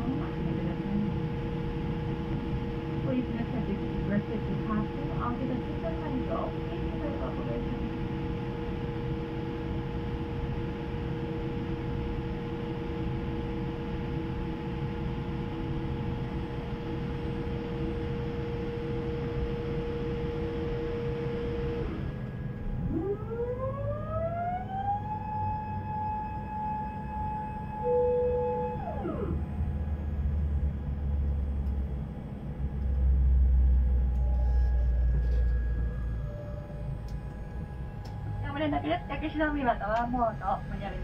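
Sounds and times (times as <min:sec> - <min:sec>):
aircraft cabin hum and hiss: 0:00.0 - 0:23.5, 0:28.9 - 0:41.0
rising engine whine: 0:00.0 - 0:41.0.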